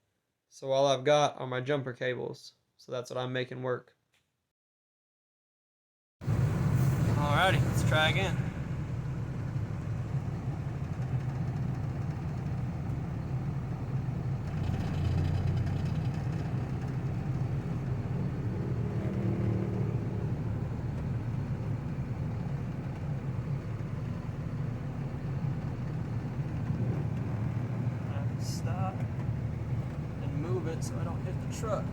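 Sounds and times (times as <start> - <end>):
truck engine running under load: 6.2 - 31.9.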